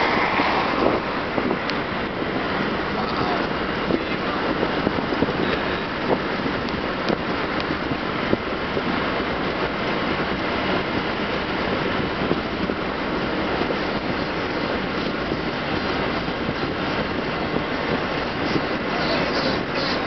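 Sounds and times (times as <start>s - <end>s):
road and wind noise in car: 0.0s - 20.0s
wind buffeting microphone: 0.0s - 20.0s.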